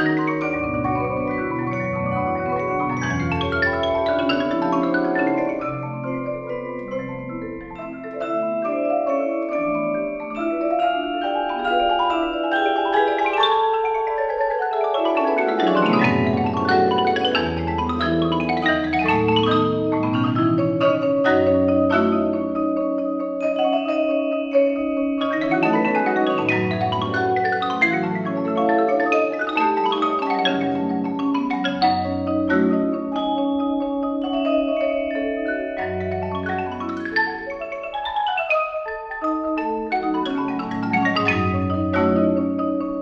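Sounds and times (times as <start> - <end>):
marimba ensemble playing: 0.0 - 43.0.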